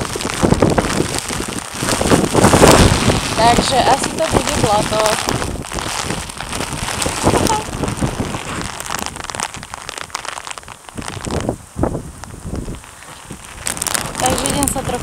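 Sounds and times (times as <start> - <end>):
raindrops tapping on microphone: 0.0 - 15.0
steady rain: 0.0 - 15.0.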